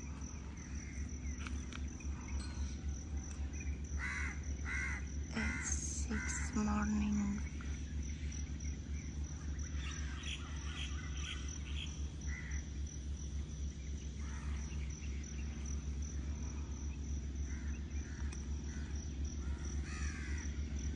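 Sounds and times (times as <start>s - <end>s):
birds calling: 0.0s - 20.8s
insects trilling: 0.0s - 20.9s
steady low hum: 0.0s - 20.9s.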